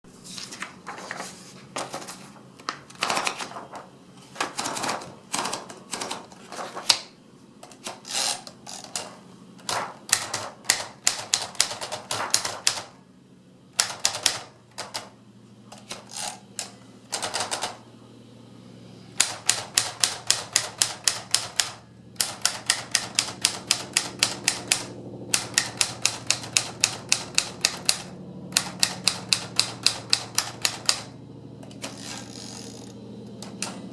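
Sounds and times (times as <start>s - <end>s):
typewriter keys striking: 1.8s - 12.9s, 13.8s - 15.1s, 15.7s - 17.8s, 19.2s - 32.4s, 33.3s - 33.9s.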